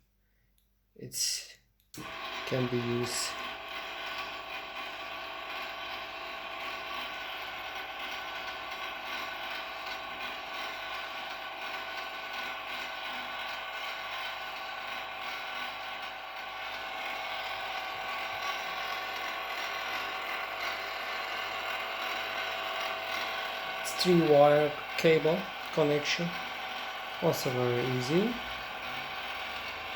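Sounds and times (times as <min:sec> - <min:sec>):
geared motor whirring: 0:02.0 - 0:29.9.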